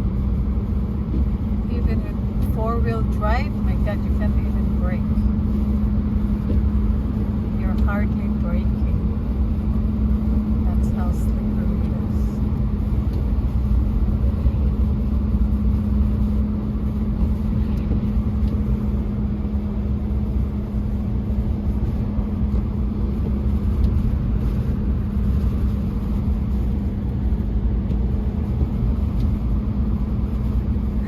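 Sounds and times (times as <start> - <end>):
steady hum: 0.0 - 31.0
vehicle cabin rumble: 0.0 - 31.0.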